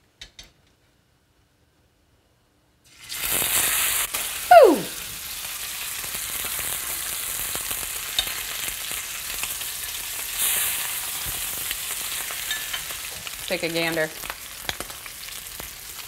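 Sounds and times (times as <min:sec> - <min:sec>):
steak sizzling in skillet: 0:02.9 - 0:16.0.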